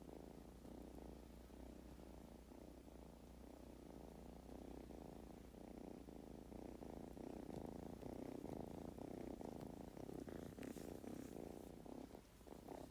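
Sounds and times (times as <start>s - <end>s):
kitten purring: 0.0s - 12.9s.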